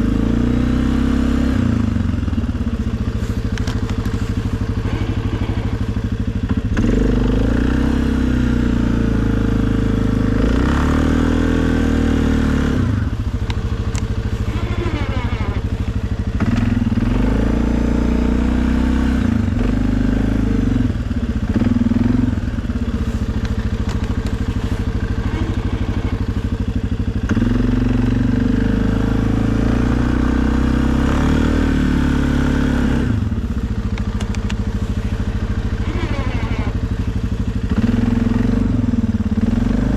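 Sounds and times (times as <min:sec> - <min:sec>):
atv engine revving under load: 0:00.0 - 0:39.9.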